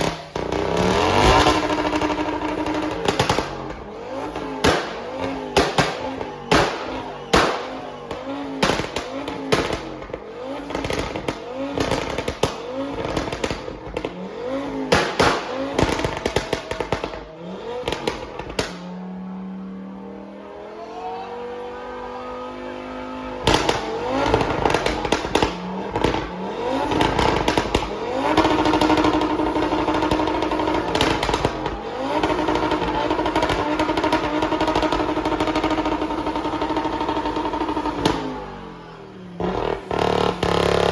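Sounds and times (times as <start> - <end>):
sharp exhaust cracks: 0.0 - 18.9, 23.1 - 38.6, 39.3 - 40.9
car engine revving: 0.0 - 40.9.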